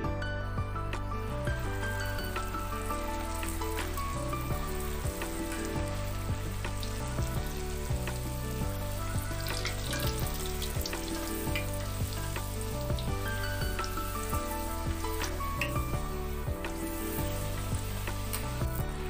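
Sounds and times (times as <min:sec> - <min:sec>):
soft background music: 0:00.0 - 0:19.0
deep-frying sizzle in oil: 0:01.4 - 0:19.0.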